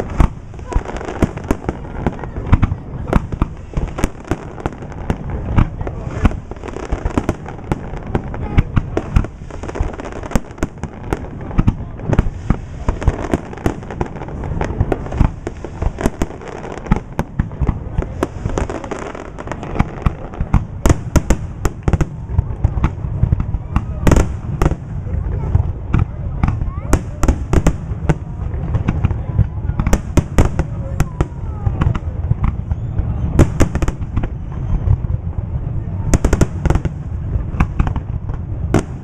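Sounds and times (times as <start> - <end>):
sharp firework cracks: 0.0 - 39.0.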